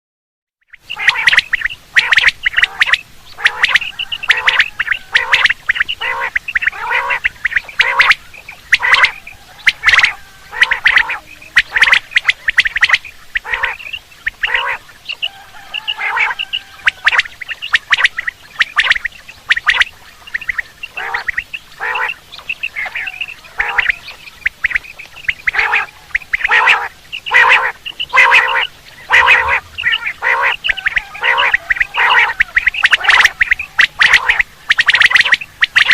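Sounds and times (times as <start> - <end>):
quail calling: 0.7 - 35.9.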